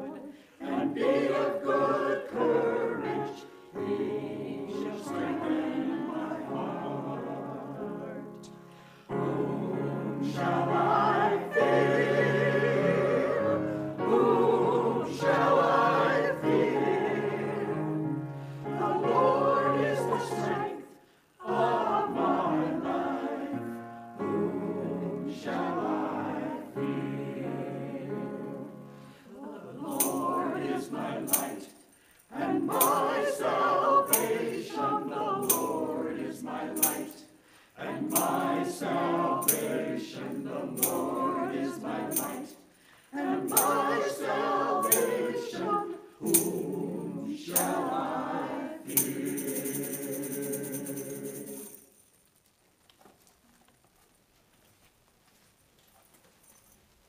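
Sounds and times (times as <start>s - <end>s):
women's choir singing: 0.0s - 51.8s.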